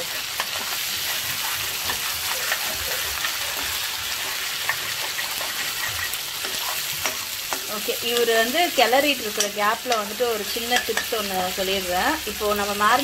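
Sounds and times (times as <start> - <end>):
spatula stirring: 0.0 - 11.2
paste sizzling in oil: 0.0 - 13.0.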